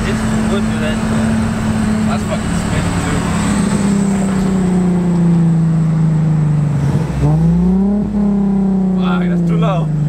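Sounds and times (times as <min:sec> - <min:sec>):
car engine under throttle: 0:00.0 - 0:10.0
road and wind noise: 0:00.0 - 0:10.0.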